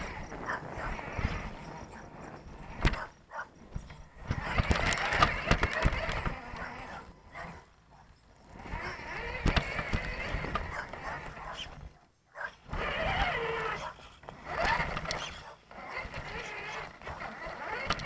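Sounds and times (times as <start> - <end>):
rc car motor whining: 0.0 - 12.0, 12.6 - 18.0.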